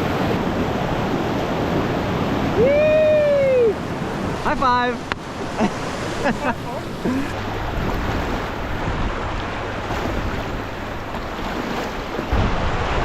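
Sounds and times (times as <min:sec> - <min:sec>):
river whitewater rushing: 0:00.0 - 0:13.0
wind rumble on microphone: 0:00.0 - 0:13.0.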